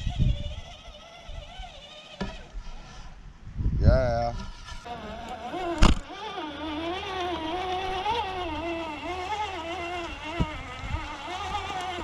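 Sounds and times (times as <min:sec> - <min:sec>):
toy car electric motor whining: 0:00.0 - 0:03.2, 0:04.5 - 0:12.0.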